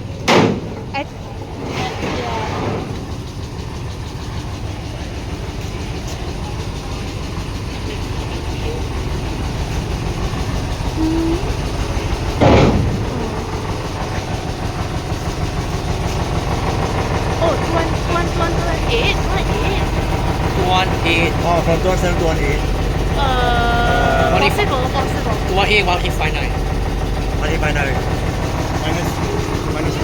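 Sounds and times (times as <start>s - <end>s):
heavy vehicle engine rumbling: 0.0s - 30.0s.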